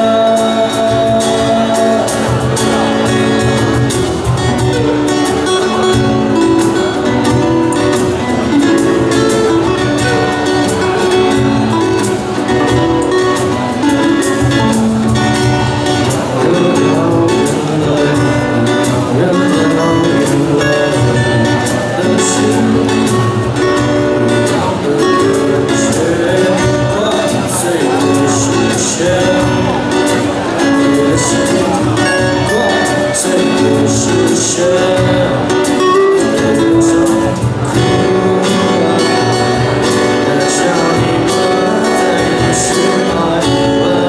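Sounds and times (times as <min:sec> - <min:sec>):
live rock band playing: 0:00.0 - 0:44.0.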